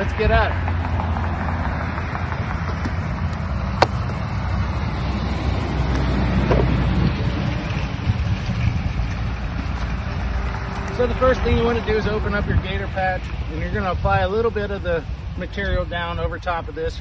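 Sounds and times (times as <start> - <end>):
wind on microphone: 1.1 - 17.0.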